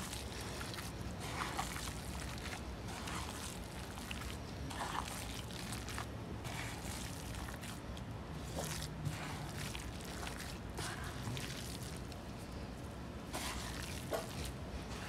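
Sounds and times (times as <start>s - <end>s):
hands squishing wet stuffing: 0.0s - 15.0s.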